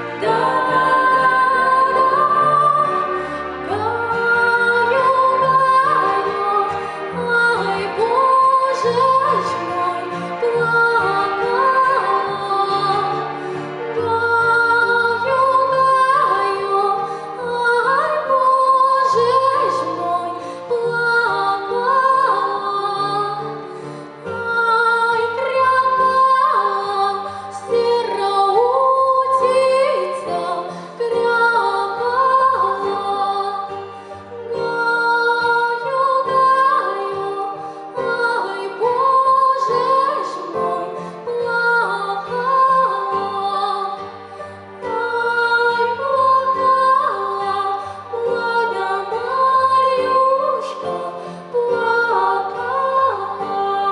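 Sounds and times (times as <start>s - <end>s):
women singing in harmony: 0.0s - 53.9s.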